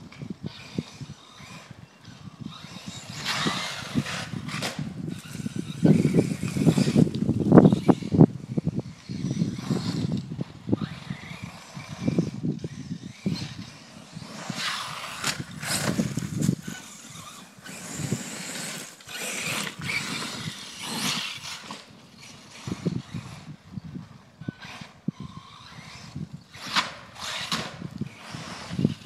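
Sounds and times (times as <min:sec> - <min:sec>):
radio-controlled truck motor: 0:00.0 - 0:29.0
tires spinning on loose dirt: 0:00.0 - 0:29.0.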